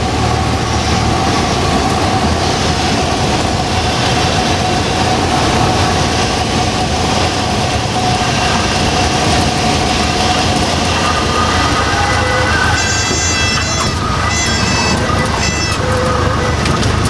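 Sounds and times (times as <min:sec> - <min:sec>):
aircraft engine and propeller: 0:00.0 - 0:17.0
airflow noise in cabin: 0:00.0 - 0:17.0.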